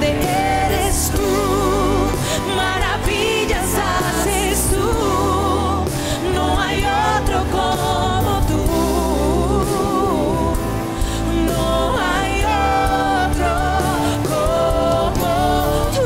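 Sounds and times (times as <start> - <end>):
keyboard band: 0.0 - 16.0
singers singing with held notes: 0.0 - 16.0.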